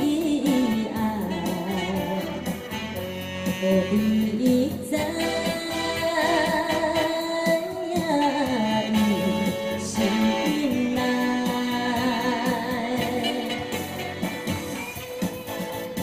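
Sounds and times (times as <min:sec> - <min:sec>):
electronic keyboard accompaniment: 0:00.0 - 0:16.0
saxophone melody: 0:00.0 - 0:16.0.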